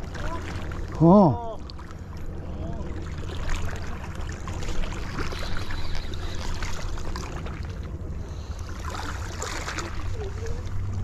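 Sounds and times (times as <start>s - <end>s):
steady low rumble: 0.0s - 11.0s
water sloshing against rocks: 0.0s - 11.0s.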